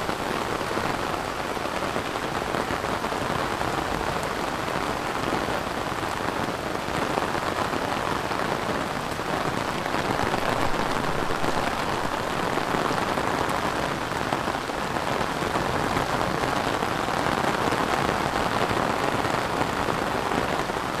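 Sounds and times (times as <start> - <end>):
steady rain on plants: 0.0 - 21.0.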